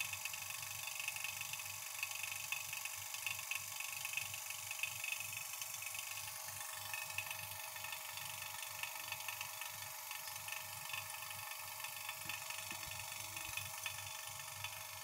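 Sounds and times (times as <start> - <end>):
vacuum pump running with flutter: 0.0 - 15.0.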